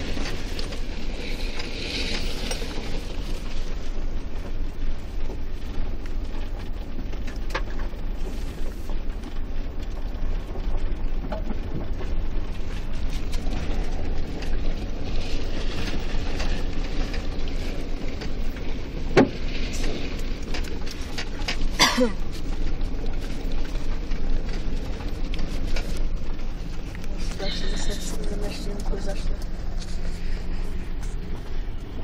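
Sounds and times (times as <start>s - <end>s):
engine and tyre rumble: 0.0s - 32.0s.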